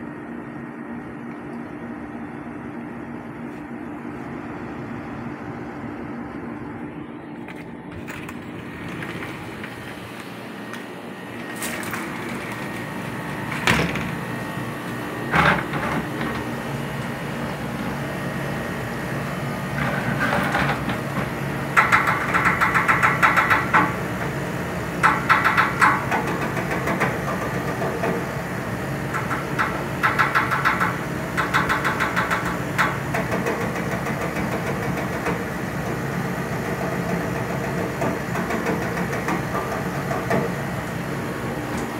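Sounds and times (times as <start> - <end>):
air conditioner unit humming: 0.0 - 41.9.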